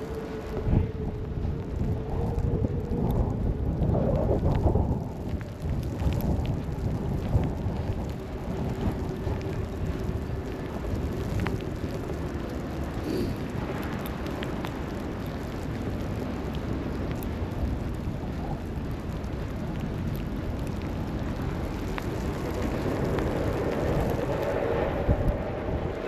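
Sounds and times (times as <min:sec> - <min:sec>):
city street traffic rumble: 0:00.0 - 0:26.0.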